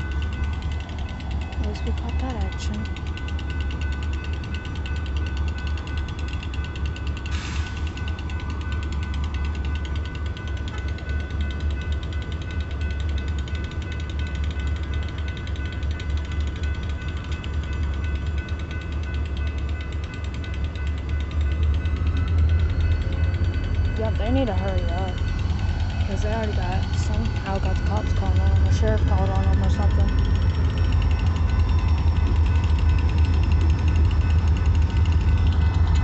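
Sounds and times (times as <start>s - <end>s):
crossing bell ringing: 0.0s - 36.0s.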